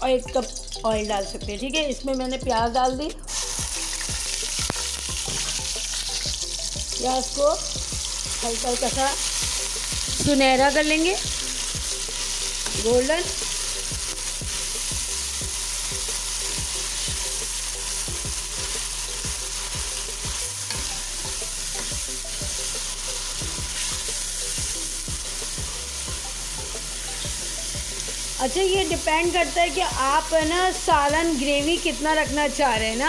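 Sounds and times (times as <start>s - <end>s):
onion paste sizzling in oil: 0.0s - 33.0s.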